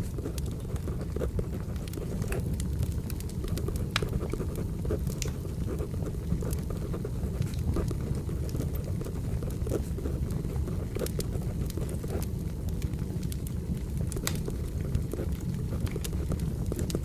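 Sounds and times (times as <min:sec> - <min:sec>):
firewood crackling and popping: 0:00.0 - 0:17.0
low steady rumble: 0:00.0 - 0:17.0.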